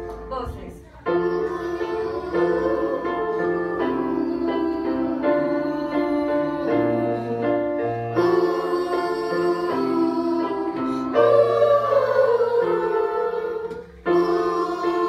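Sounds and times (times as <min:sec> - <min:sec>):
children singing: 0:01.0 - 0:15.0.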